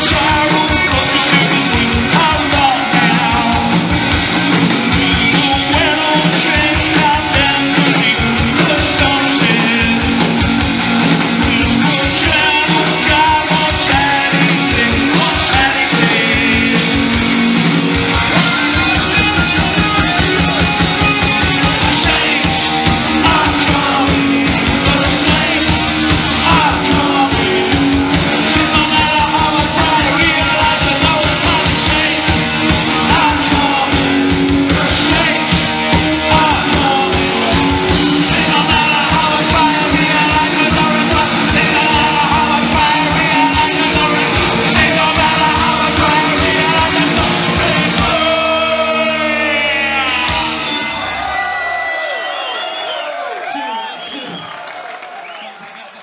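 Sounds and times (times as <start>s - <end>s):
backing vocals: 0.0s - 51.5s
man singing lead vocal: 0.0s - 51.6s
live punk rock band: 0.0s - 53.0s.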